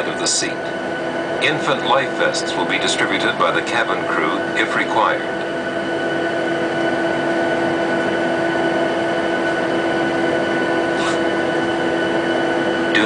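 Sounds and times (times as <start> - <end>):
airplane cabin air rushing: 0.0 - 13.0
constant low hum: 0.0 - 13.0.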